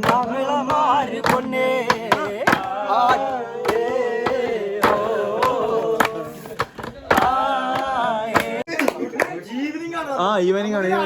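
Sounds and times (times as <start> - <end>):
person singing folk song: 0.0 - 9.0
sharp rhythmic beats: 0.0 - 9.4.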